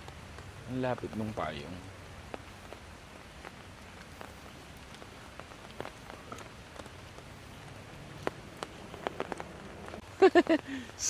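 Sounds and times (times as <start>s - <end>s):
raindrops tapping an umbrella: 0.0s - 11.0s
steady rain: 0.0s - 11.0s.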